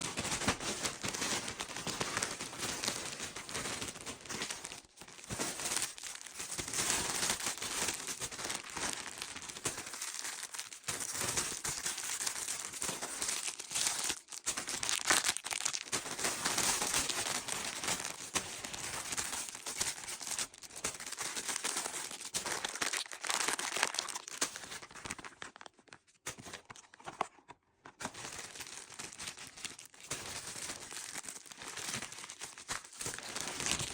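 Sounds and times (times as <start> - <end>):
packaging crinkling and tearing: 0.0 - 27.4, 28.0 - 33.9.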